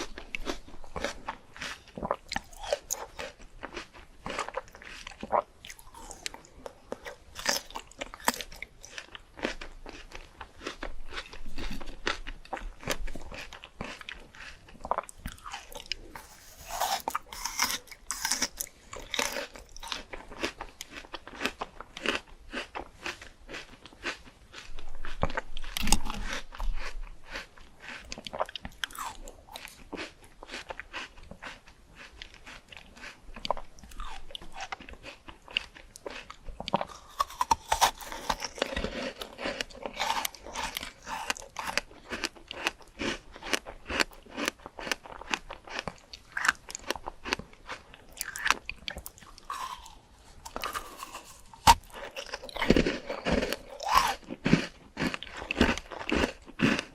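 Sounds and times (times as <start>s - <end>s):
person chewing fruit: 0.0s - 56.9s.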